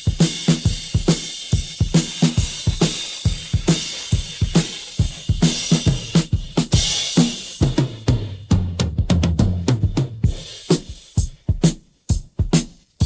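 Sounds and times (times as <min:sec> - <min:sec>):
rock drum kit playing: 0:00.0 - 0:13.0.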